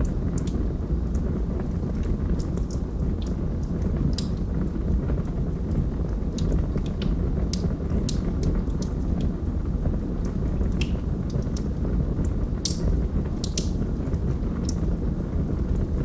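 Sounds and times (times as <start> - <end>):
logs burning with crackles and pops: 0.0 - 16.0.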